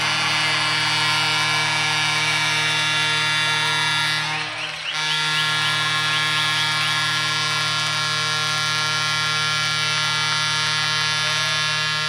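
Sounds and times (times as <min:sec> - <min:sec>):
goal horn long note: 0:00.0 - 0:12.0.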